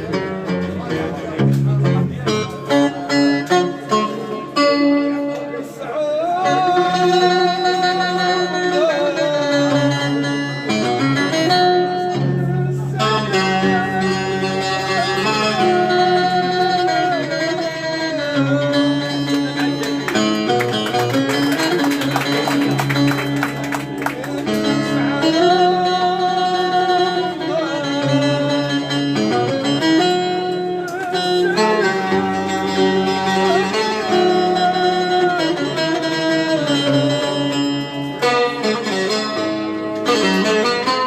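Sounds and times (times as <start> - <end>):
plucked string instruments: 0.0 - 41.0.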